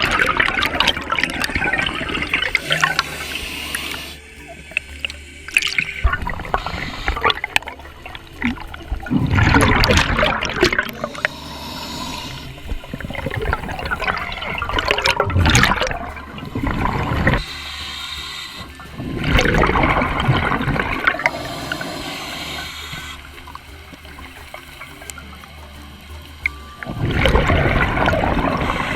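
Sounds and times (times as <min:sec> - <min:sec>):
rush of exhaled bubbles: 0:00.0 - 0:25.5, 0:26.8 - 0:28.9
regulator breathing hiss: 0:00.0 - 0:28.9.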